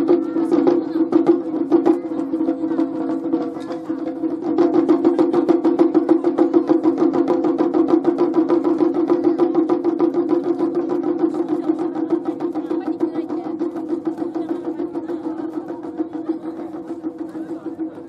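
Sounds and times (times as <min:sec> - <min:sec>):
taiko drumming: 0:00.0 - 0:18.0.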